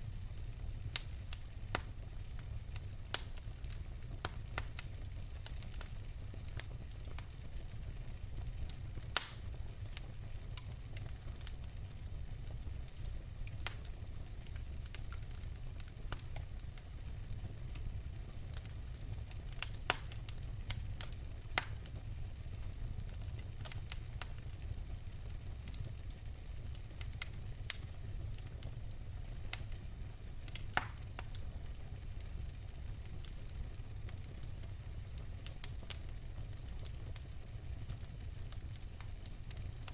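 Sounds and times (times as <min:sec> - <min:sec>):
low rumble of flames: 0:00.0 - 0:39.9
logs crackling and popping: 0:00.2 - 0:39.9.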